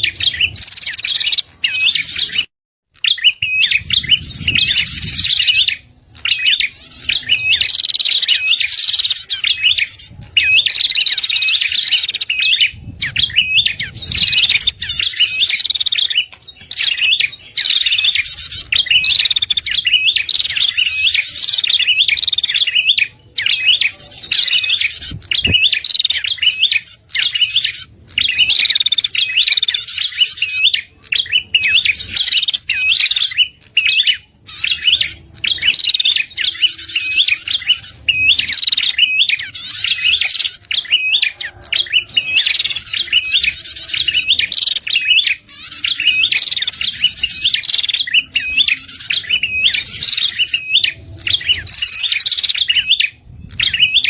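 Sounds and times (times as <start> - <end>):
bird rapid chirping phrases: 0.0 - 54.0.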